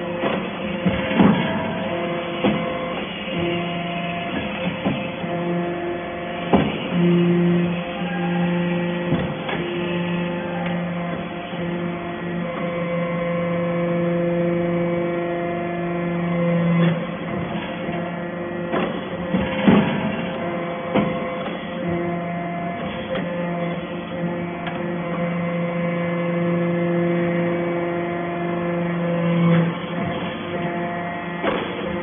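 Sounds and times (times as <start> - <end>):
hydraulic power unit hum: 0.0 - 32.0.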